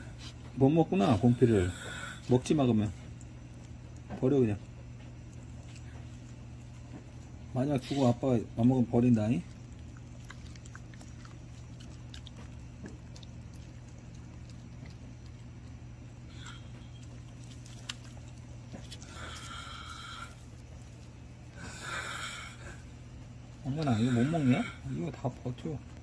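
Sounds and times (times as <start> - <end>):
steady low hum: 0.0 - 26.0
dog chewing wet clicks: 0.2 - 26.0.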